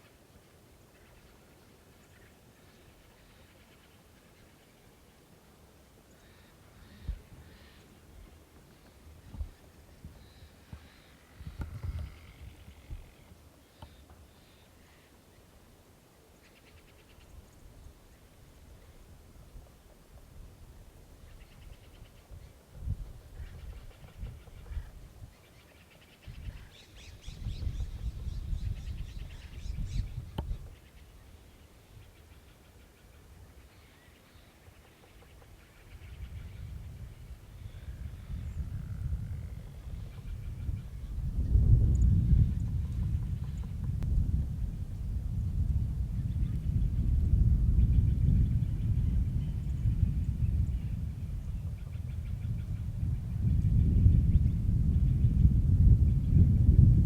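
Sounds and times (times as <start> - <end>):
faint outdoor hiss: 0.0 - 55.0.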